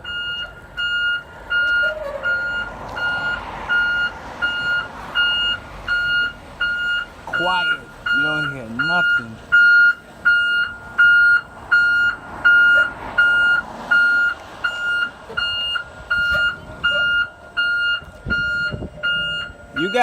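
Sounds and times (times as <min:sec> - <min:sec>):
bus back-up alarm beeping: 0:00.0 - 0:20.0.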